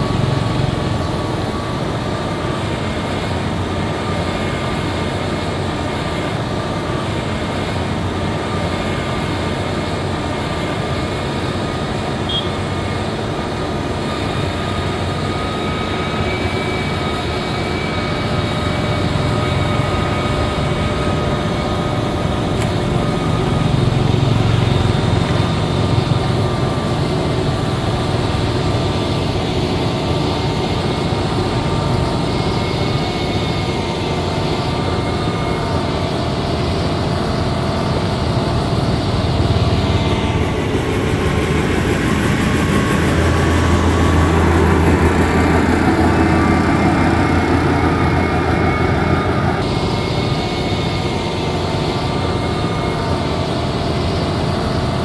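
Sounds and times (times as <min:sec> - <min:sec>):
deep drone: 0:00.0 - 0:55.0
diesel engine running: 0:00.0 - 0:55.0.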